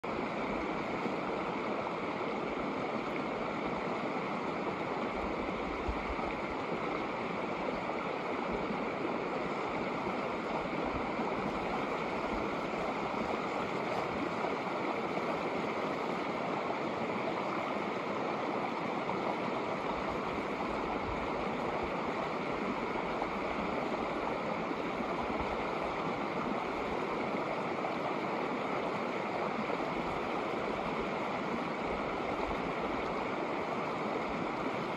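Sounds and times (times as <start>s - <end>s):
creek water rushing over rocks: 0.0s - 34.9s.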